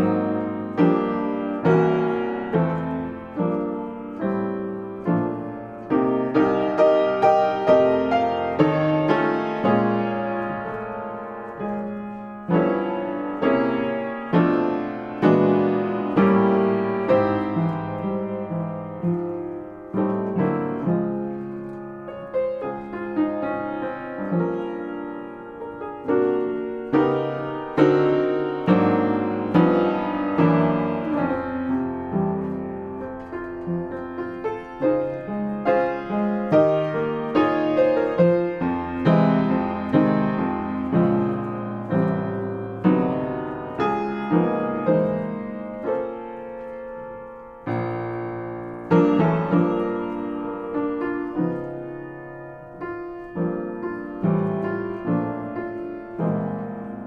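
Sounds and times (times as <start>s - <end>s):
solo jazz piano ballad: 0.0s - 57.0s.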